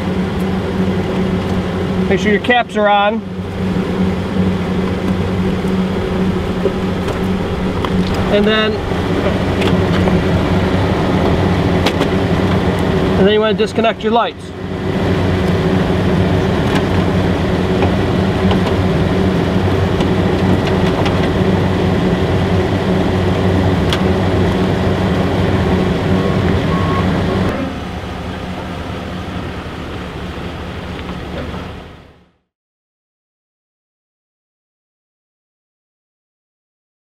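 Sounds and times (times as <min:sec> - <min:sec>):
truck engine idling: 0:00.0 - 0:32.4.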